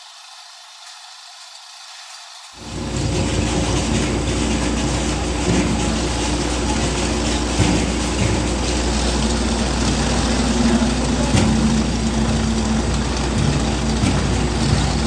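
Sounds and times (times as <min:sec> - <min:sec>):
roller conveyor hum and rattle: 0:02.5 - 0:15.0
potatoes knocking on rollers: 0:02.6 - 0:15.0.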